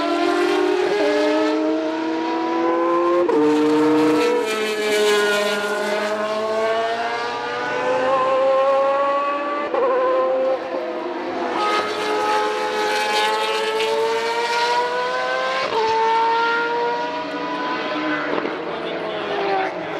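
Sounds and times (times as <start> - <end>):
race car engines revving: 0.0 - 19.9.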